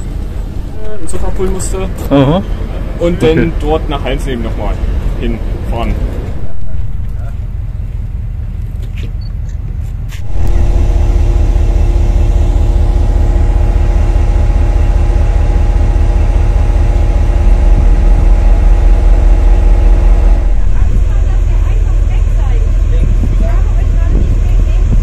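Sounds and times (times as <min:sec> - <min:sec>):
heavy engine running: 0:00.0 - 0:25.0.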